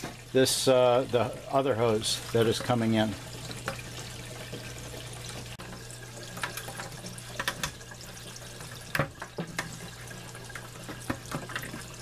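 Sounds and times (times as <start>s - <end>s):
water running into tank: 0.0s - 12.0s.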